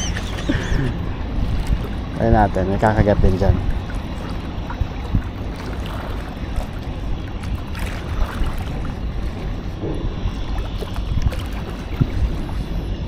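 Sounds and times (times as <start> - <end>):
sea water washing: 0.0 - 13.0
wind noise on microphone: 0.0 - 13.0.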